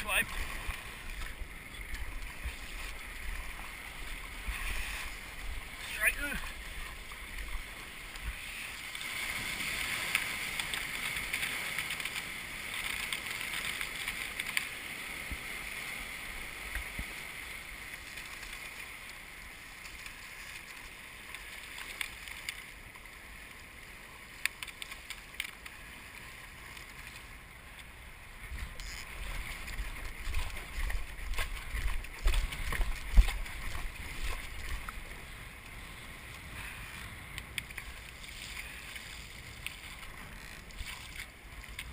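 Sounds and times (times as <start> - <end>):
water rushing along hull: 0.0 - 41.9.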